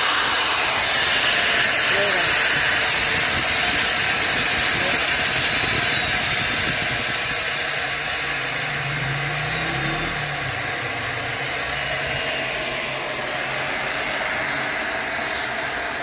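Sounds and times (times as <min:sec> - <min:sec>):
electric mixer motor whirring: 0:00.0 - 0:16.0.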